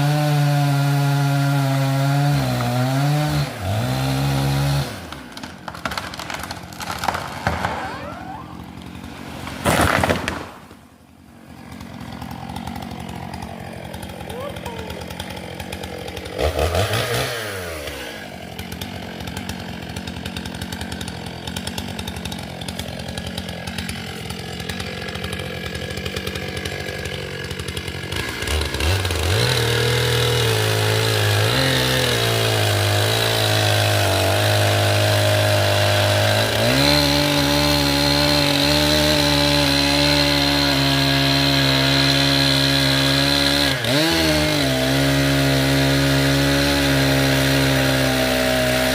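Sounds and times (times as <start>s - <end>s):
chainsaw idling: 0.0s - 48.9s
chainsaw sawing into trunk: 0.0s - 48.9s.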